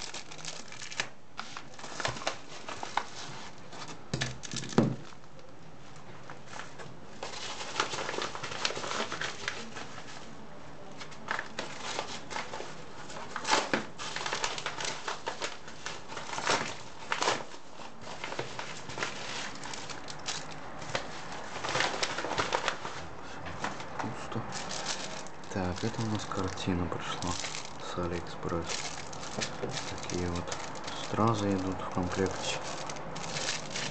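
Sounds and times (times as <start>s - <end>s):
plastic packaging crinkling: 0.0s - 5.4s, 6.3s - 10.2s, 11.0s - 33.9s.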